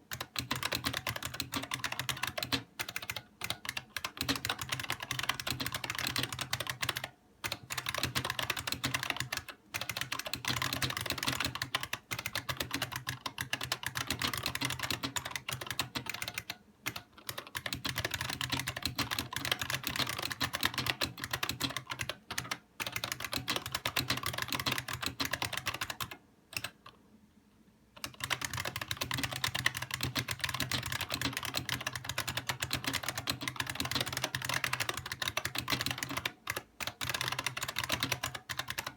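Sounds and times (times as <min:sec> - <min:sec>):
clicky keyboard typing: 0:00.0 - 0:27.0, 0:28.0 - 0:38.9.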